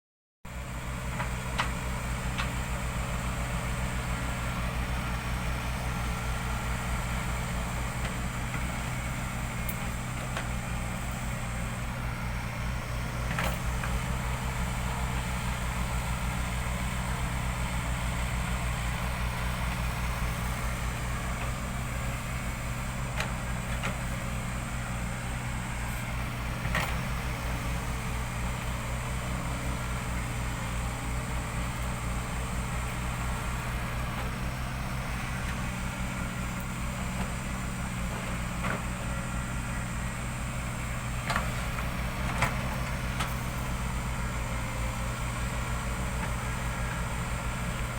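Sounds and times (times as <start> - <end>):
excavator diesel engine running: 0.5 - 47.9.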